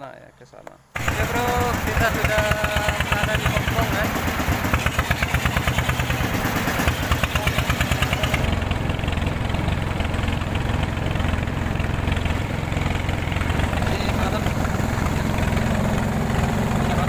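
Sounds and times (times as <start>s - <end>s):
boat engine chugging: 1.0s - 17.0s.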